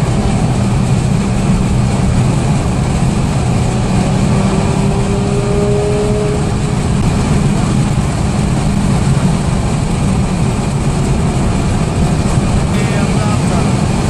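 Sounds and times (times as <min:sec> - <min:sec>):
car engine and tyres at speed: 0:00.0 - 0:14.0.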